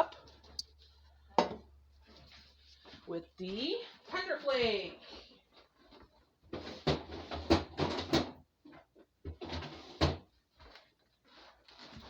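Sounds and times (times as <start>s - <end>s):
rummaging and shuffling: 1.9s - 12.0s.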